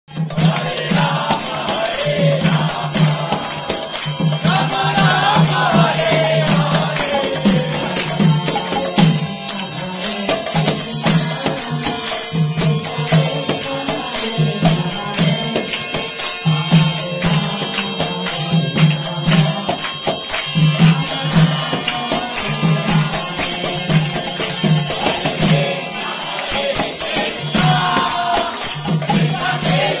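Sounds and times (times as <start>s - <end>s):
drum beat: 0.1s - 13.6s, 18.6s - 30.0s
group chanting and singing: 0.1s - 30.0s
jingling hand cymbals: 0.1s - 30.0s.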